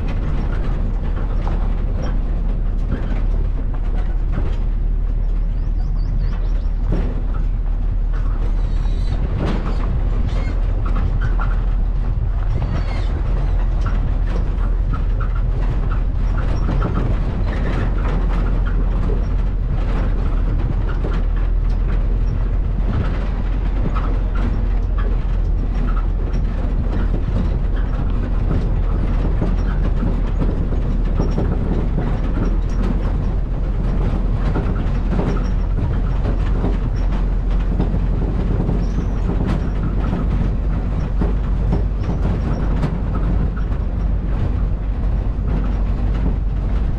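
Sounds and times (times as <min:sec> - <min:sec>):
rattles and knocks: 0:00.0 - 0:46.9
vehicle road rumble: 0:00.0 - 0:46.9.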